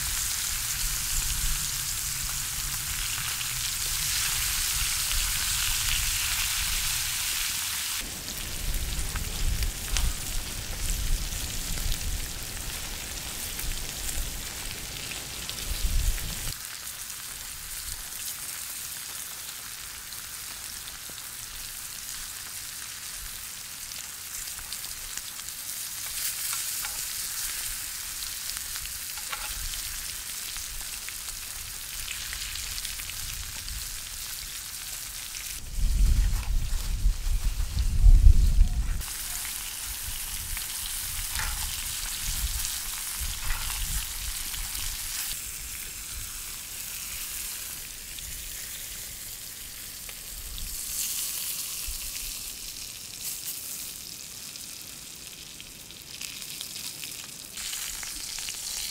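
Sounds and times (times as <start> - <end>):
meat sizzling in a pan: 0.0 - 58.9.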